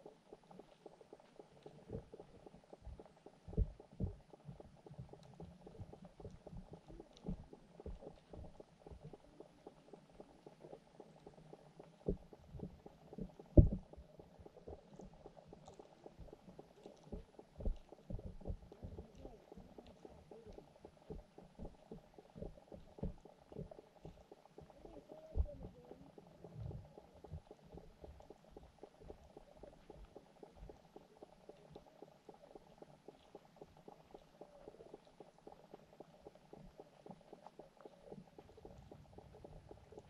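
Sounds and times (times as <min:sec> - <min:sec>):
soft underwater knocks and thumps: 0:00.0 - 0:40.0
low underwater rumble: 0:00.1 - 0:40.0.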